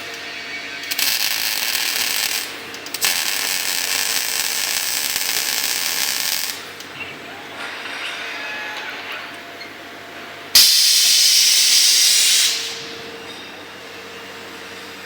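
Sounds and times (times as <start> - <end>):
welding arc crackling and hissing: 0.0 - 13.3.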